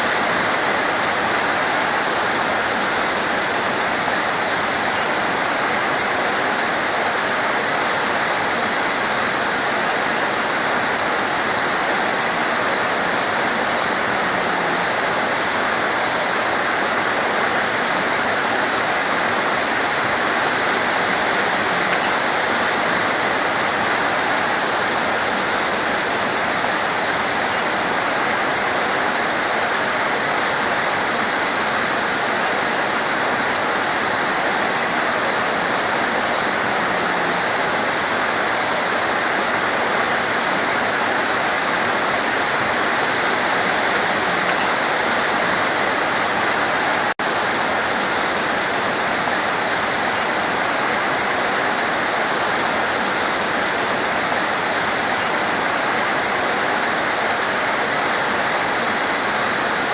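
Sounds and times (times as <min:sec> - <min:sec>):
torrential rain pouring: 0:00.0 - 0:59.9.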